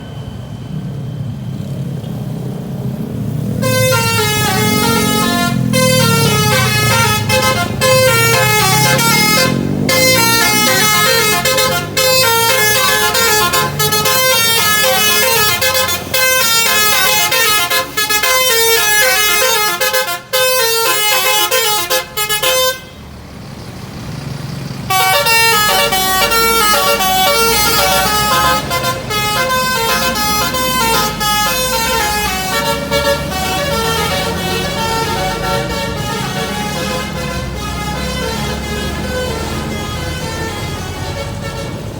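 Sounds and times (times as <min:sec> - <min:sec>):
engine rising and falling: 0:02.4 - 0:19.4, 0:23.4 - 0:40.6
musical bus horn melody: 0:03.6 - 0:23.0, 0:24.9 - 0:41.9.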